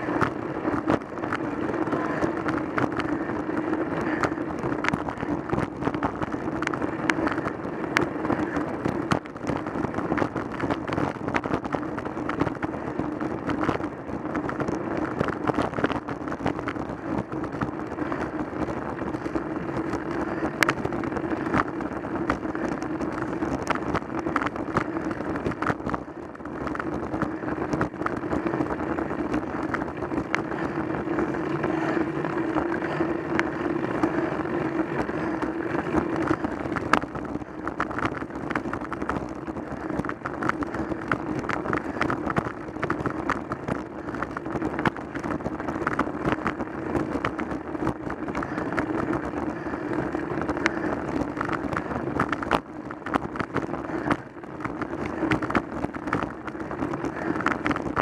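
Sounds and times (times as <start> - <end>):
low hum: 0.0 - 58.0
wind and tyre noise: 0.0 - 58.0.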